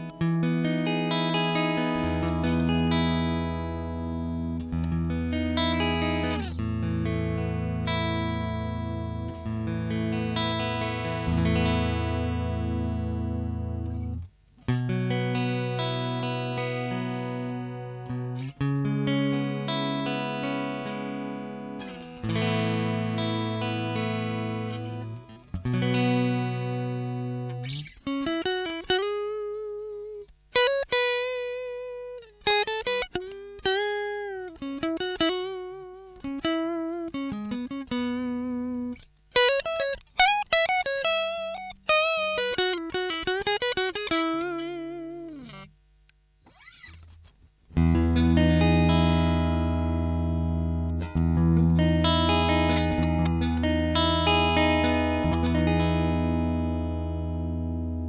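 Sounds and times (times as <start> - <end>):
electric guitar chords: 0.0 - 45.7, 46.5 - 58.0
electric guitar lead lines: 0.0 - 58.0.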